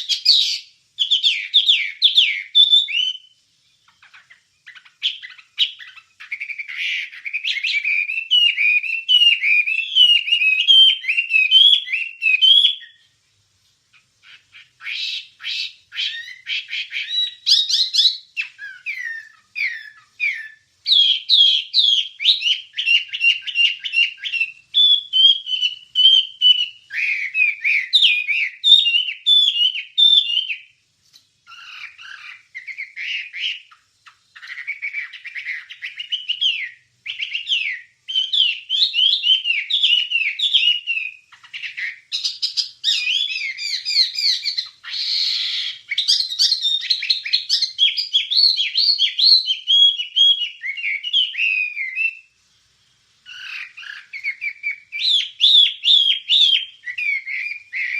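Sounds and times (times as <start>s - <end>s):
songbird chirping and trilling: 0.0s - 57.9s.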